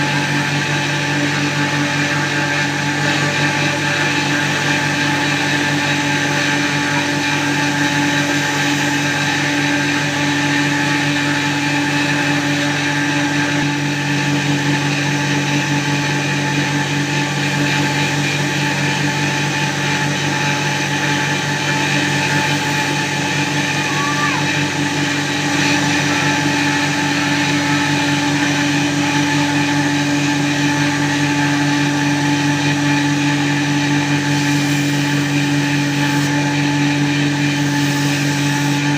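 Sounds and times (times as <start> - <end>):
electric power tool motor running: 0.0 - 38.9.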